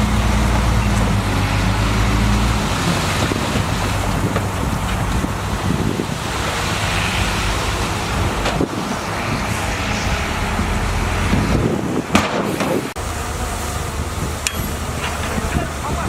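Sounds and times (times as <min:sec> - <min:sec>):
wind noise on microphone: 0:00.0 - 0:13.0, 0:13.6 - 0:16.0
bulldozer diesel engine running: 0:00.0 - 0:16.0.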